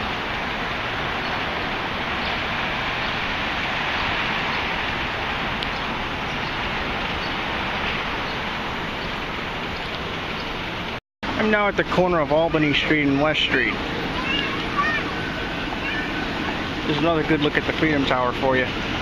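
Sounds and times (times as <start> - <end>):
city street roar: 0.0 - 19.0.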